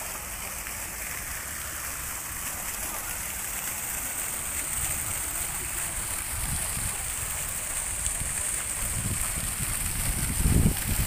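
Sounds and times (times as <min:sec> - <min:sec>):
fountain water splashing: 0:00.0 - 0:11.0
water cascading over rocks: 0:00.0 - 0:11.0.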